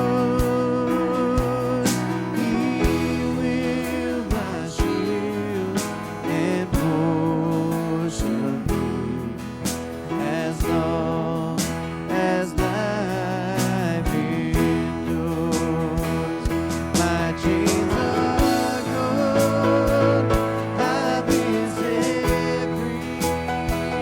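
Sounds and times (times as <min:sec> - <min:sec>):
guitar: 0:00.0 - 0:24.0
steady drum beat: 0:00.0 - 0:24.0.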